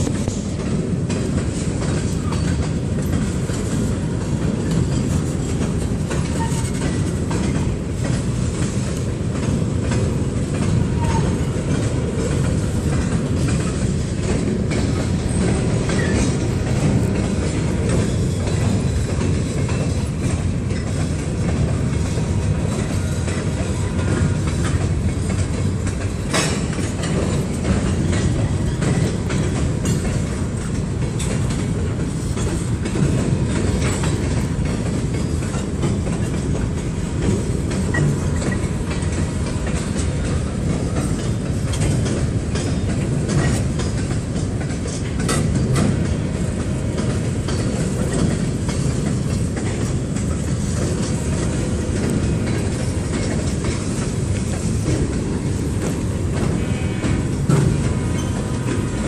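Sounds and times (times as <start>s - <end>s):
freight train wheels rumbling on rail: 0.0s - 59.0s
train clicks and knocks: 0.0s - 59.0s.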